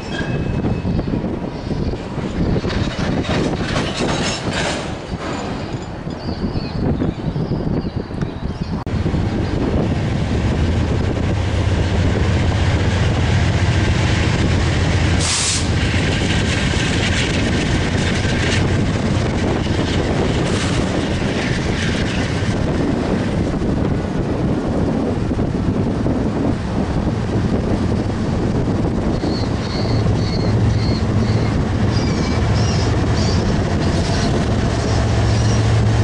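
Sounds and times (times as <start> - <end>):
train cars rumbling on track: 0.0 - 36.0.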